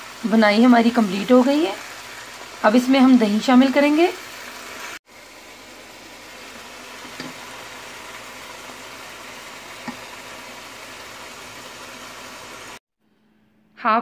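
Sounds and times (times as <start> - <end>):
meat sizzling in a pan: 0.0 - 12.8.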